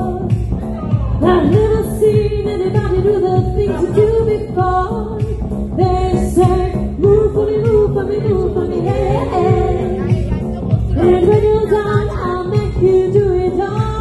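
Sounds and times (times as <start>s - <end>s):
dance beat: 0.0s - 14.0s
female lead vocals: 0.0s - 14.0s
keyboard backing: 0.0s - 14.0s.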